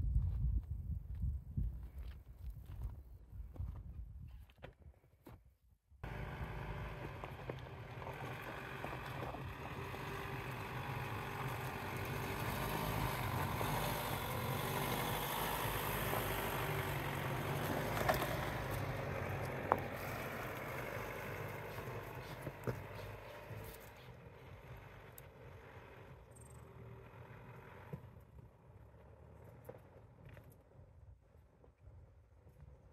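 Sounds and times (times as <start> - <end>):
vehicle engine and tyre noise: 6.0 - 32.9.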